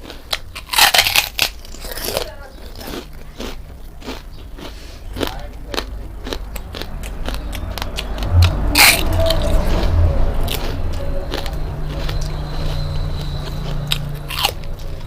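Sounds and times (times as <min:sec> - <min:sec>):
crunching dry noodles: 0:00.0 - 0:15.0.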